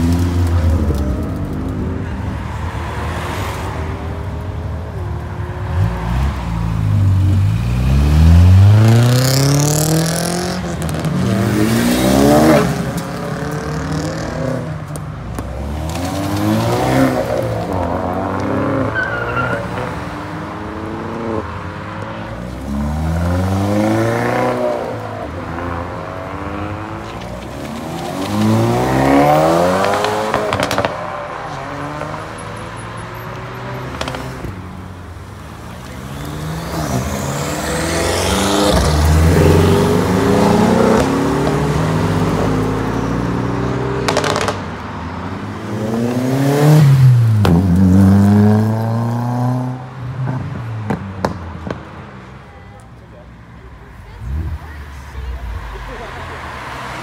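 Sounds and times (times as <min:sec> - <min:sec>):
cars accelerating hard: 0:05.6 - 0:52.0.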